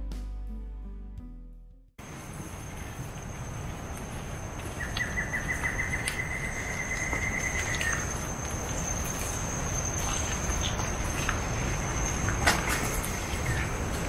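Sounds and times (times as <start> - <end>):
insects droning: 2.0 - 14.0.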